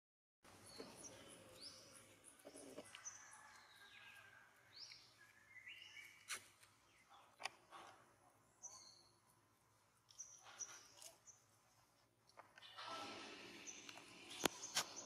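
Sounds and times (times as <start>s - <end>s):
faint birdsong: 0.5s - 15.0s.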